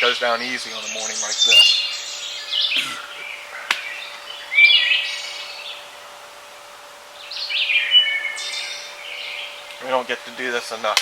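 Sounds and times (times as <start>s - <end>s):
songbirds singing: 0.0s - 10.8s.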